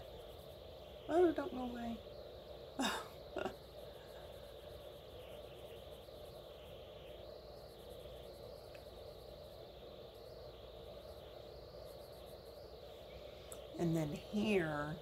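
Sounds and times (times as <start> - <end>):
faint background hum and hiss: 0.0 - 15.0.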